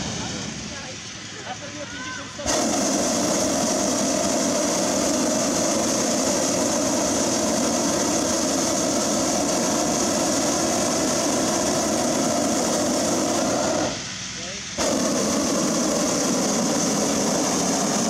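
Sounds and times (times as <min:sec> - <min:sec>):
propane burner roaring: 0:00.0 - 0:18.0.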